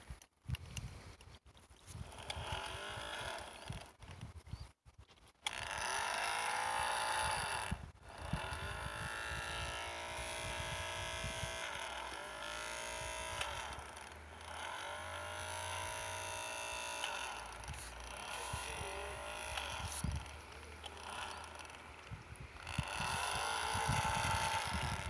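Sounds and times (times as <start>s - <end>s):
small boat motor running: 1.9s - 4.2s, 5.4s - 25.0s.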